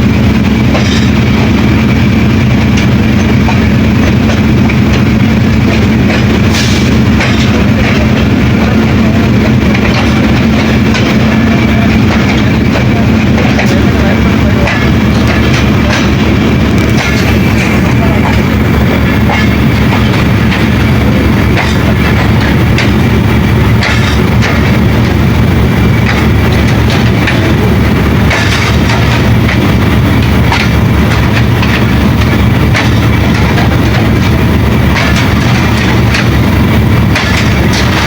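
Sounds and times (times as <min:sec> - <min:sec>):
diesel locomotive engine drone: 0:00.0 - 0:38.0
wheels clicking over track: 0:00.4 - 0:38.0.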